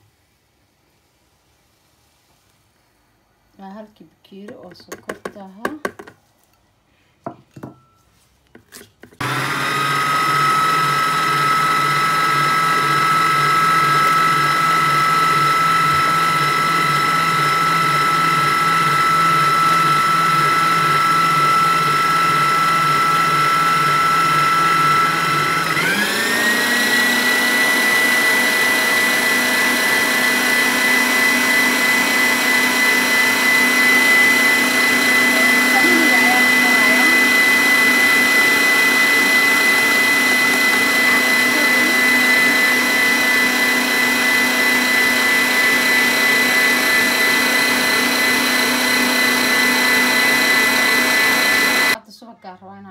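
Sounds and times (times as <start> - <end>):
stand mixer motor whining: 9.2 - 52.0.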